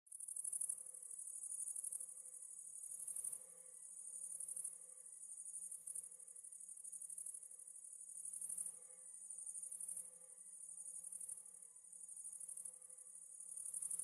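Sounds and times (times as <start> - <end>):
crickets chirping: 0.3 - 14.0.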